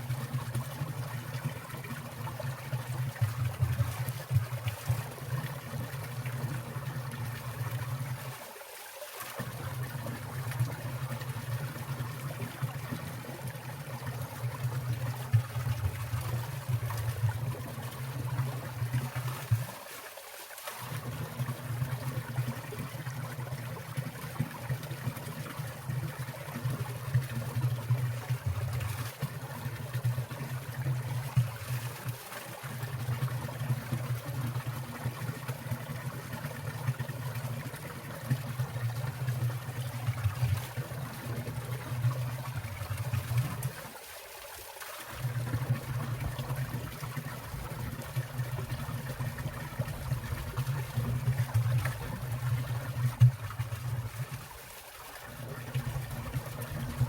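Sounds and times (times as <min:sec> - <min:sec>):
stream water trickling and splashing: 0:00.0 - 0:57.0.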